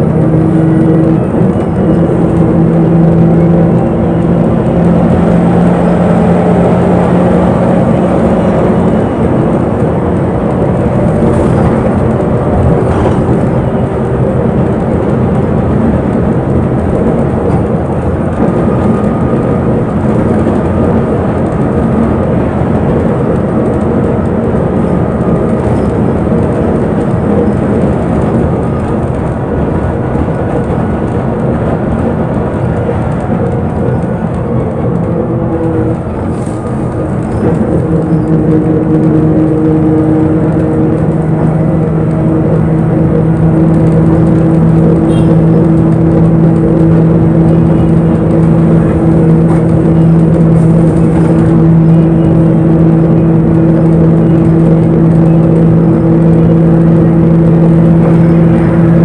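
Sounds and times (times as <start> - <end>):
bus engine drone: 0.0 - 59.0
road rumble: 0.0 - 59.0.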